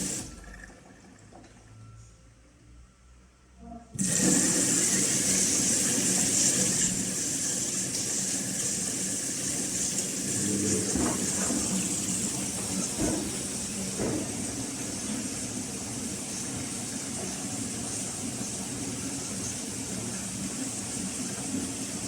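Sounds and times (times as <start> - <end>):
water rushing into washing machine: 0.0 - 1.4, 4.0 - 22.0.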